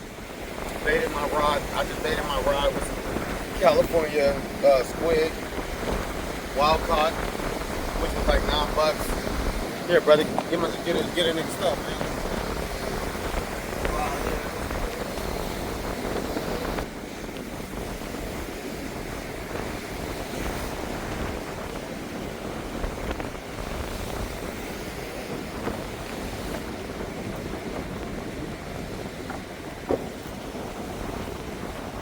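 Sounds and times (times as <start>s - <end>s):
ocean surf: 0.0s - 32.0s
wind buffeting microphone: 0.0s - 32.0s.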